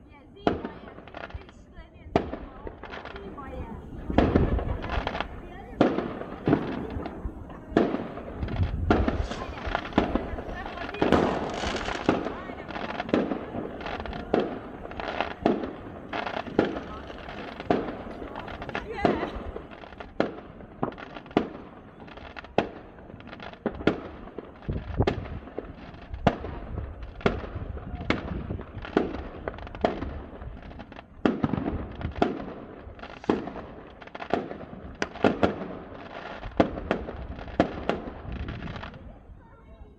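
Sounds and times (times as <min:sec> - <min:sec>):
fireworks crackling: 0:00.0 - 0:39.9
firework shells bursting: 0:00.5 - 0:39.0.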